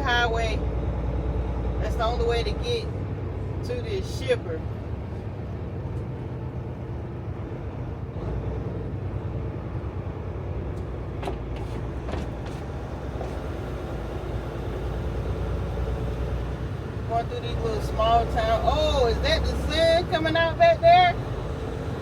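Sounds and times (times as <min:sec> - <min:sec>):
diesel engine drone: 0:00.0 - 0:22.0
road drone: 0:00.0 - 0:22.0.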